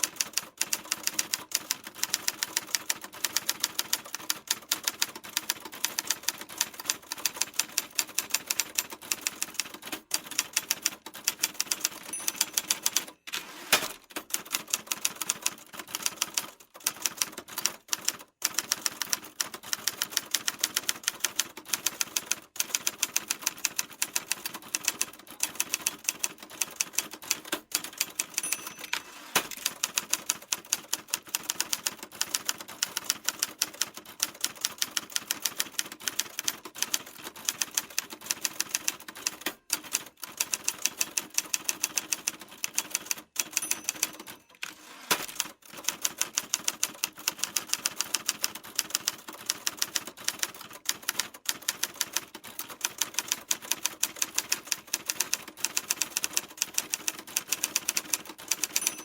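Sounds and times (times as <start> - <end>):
typewriter keys clacking: 0.0 - 59.0.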